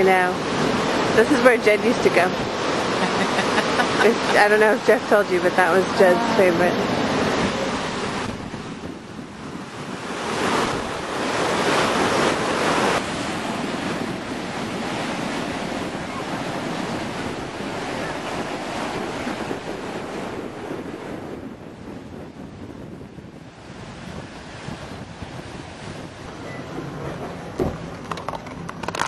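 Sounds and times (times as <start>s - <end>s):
surf breaking on rocky shore: 0.0s - 29.0s
wind buffeting microphone: 0.0s - 29.0s.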